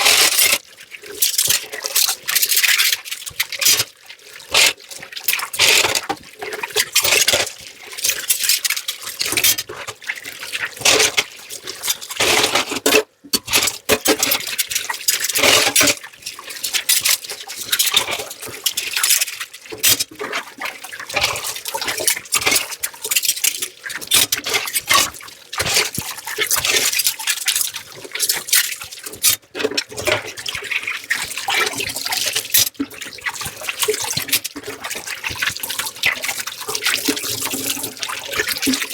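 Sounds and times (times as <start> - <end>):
tap water splashing: 0.0 - 38.9.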